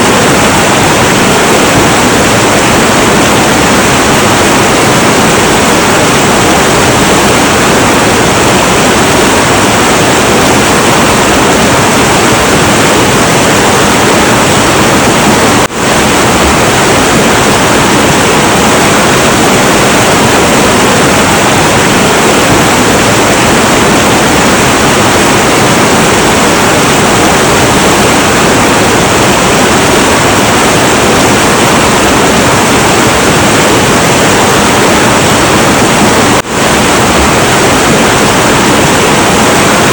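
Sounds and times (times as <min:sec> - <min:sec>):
turbulent river rushing: 0:00.0 - 0:39.9.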